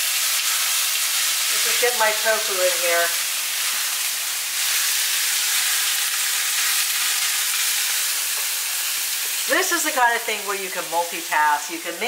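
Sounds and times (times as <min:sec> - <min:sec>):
tofu sizzling in a frying pan: 0:00.0 - 0:12.0.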